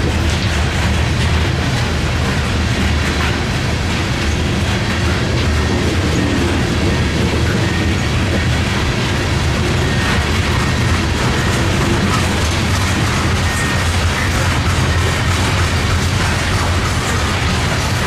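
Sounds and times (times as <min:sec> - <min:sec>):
freight train rumbling past: 0:00.0 - 0:18.0
wheels clattering over rails: 0:00.0 - 0:18.0.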